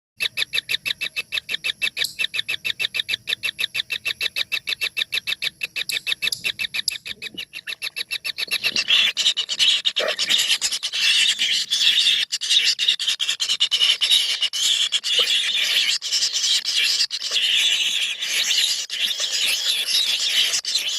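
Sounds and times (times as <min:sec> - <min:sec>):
bird nestlings calling: 0:00.2 - 0:20.9.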